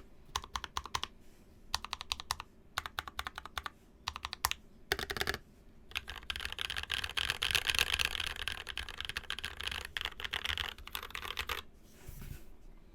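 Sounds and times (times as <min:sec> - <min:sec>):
fast mechanical keyboard typing: 0:00.3 - 0:01.1, 0:01.8 - 0:11.7.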